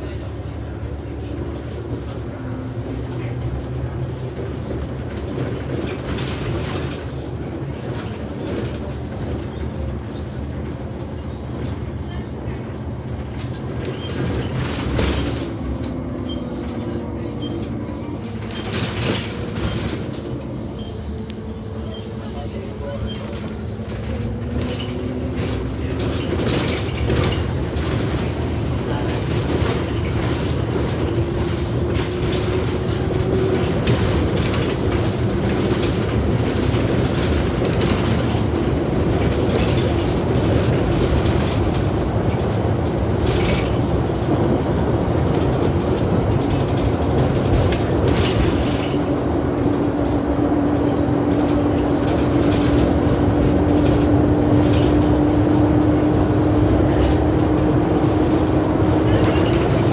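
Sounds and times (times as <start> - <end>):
bus engine accelerating: 0.0 - 59.9
road noise: 0.0 - 59.9.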